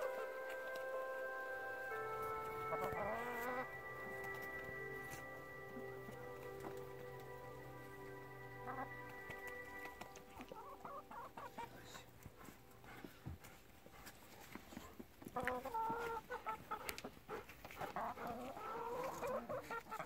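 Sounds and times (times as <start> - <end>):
hens clucking: 0.0 - 20.0.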